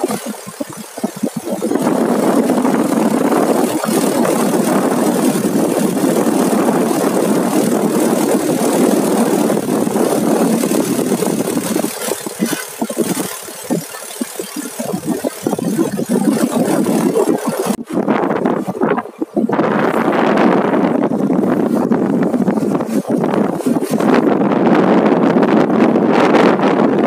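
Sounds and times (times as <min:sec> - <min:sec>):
motorcycle engine running: 0:00.0 - 0:25.6
wind rushing over microphone: 0:00.0 - 0:27.0.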